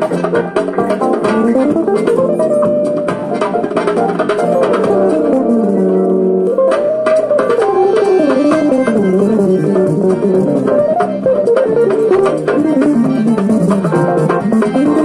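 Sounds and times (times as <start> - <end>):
electric guitar folk melody: 0.0 - 15.0
hand drum percussion: 0.0 - 15.0.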